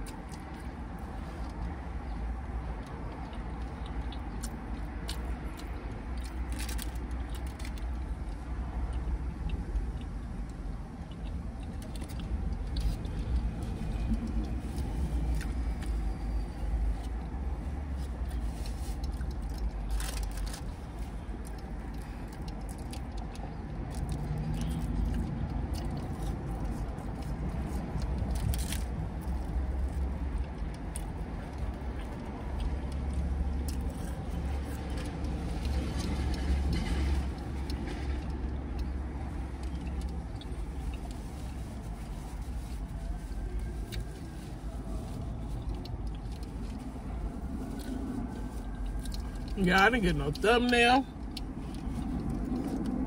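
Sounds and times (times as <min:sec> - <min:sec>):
person chewing: 0:00.0 - 0:49.6, 0:51.1 - 0:53.0
steady low rumble: 0:00.0 - 0:53.0.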